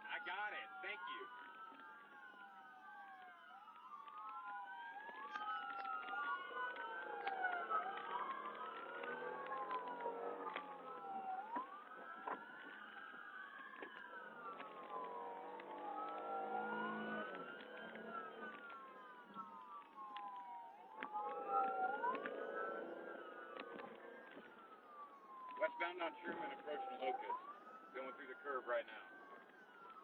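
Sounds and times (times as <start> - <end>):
police sirens wailing: 0.0 - 30.0.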